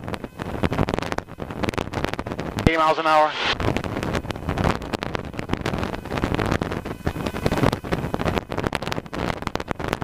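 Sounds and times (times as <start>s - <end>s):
light aircraft engine drone: 0.0s - 10.0s
wind buffeting microphone: 0.0s - 10.0s.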